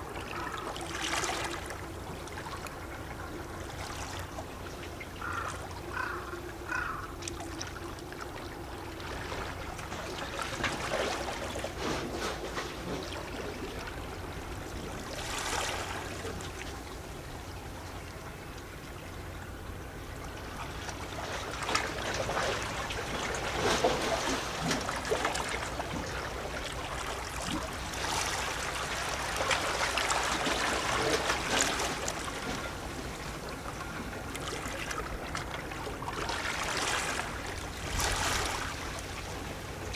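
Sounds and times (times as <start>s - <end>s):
waves lapping against rocks: 0.0s - 17.5s, 20.3s - 39.9s.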